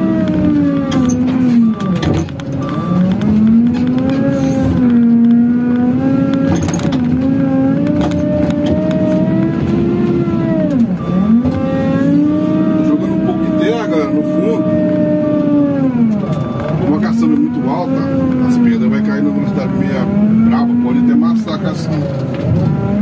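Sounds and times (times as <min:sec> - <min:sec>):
diesel engine revving under load: 0:00.0 - 0:23.0.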